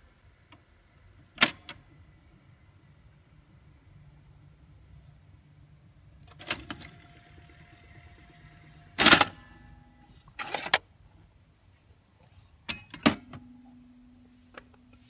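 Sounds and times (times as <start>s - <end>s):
mechanism whirring: 1.4s - 15.0s
cassette lift clunking: 1.5s - 15.0s
low steady hum: 1.5s - 15.0s.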